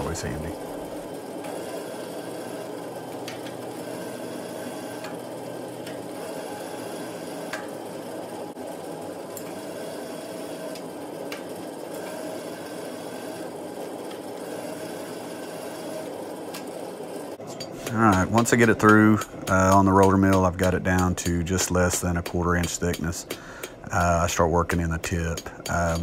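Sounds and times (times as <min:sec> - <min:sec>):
roller mill running: 0:00.0 - 0:26.0.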